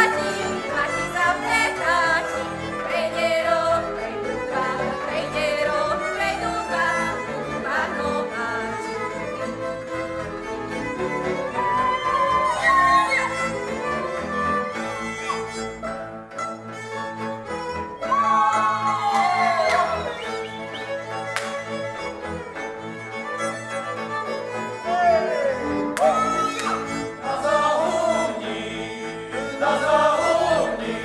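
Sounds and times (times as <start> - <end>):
folk string band with fiddles: 0.0 - 31.0.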